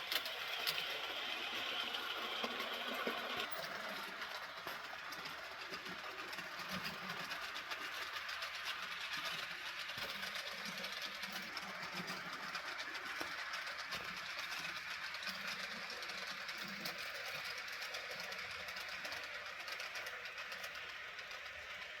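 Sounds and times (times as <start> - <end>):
model train motor whirring: 0.0 - 22.0.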